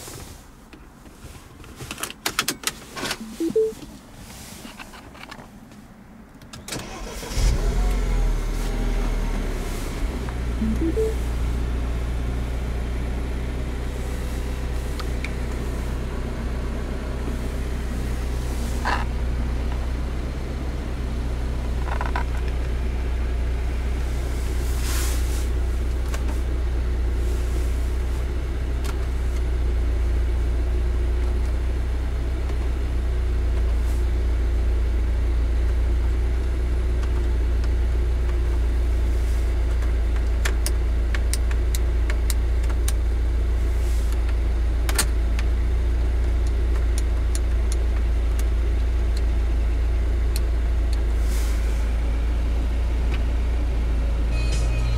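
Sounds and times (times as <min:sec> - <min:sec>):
car engine low drone: 0:03.2 - 0:54.9.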